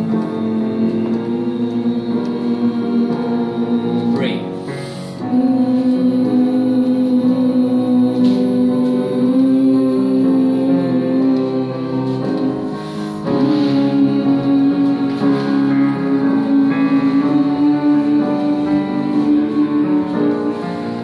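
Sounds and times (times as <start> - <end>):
choir humming: 0.0 - 21.0.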